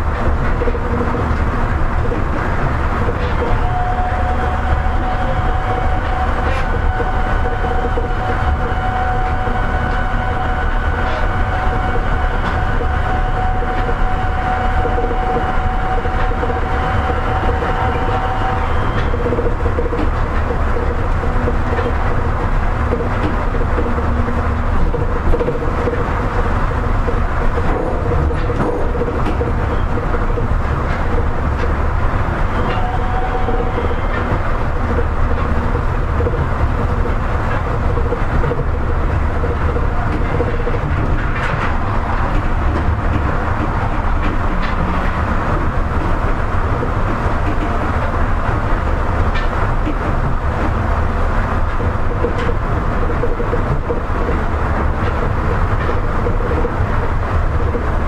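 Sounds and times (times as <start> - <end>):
train rolling noise: 0.0 - 58.0.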